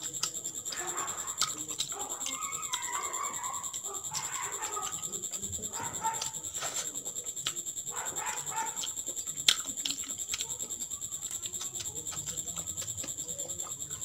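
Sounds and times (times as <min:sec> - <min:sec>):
mouth clicks: 0:00.0 - 0:14.0
wet chewing and lip-smacking: 0:00.0 - 0:14.0.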